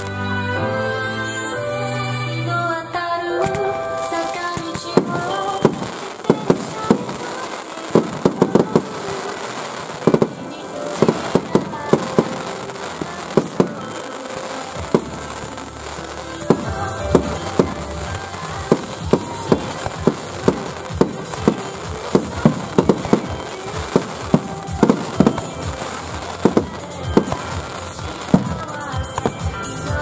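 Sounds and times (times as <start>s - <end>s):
fireworks bangs: 3.4s - 30.0s.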